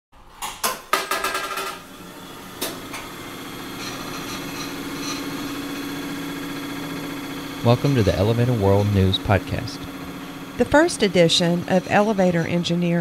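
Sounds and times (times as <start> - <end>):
steady mechanical hum: 0.6 - 13.0.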